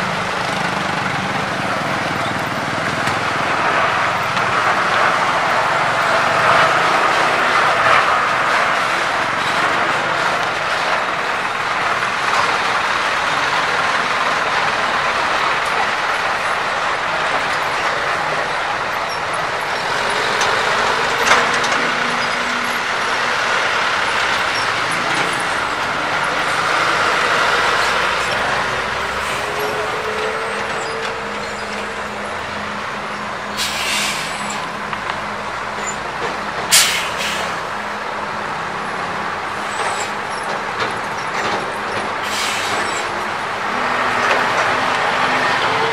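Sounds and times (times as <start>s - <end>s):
heavy truck engines: 0.0s - 45.9s.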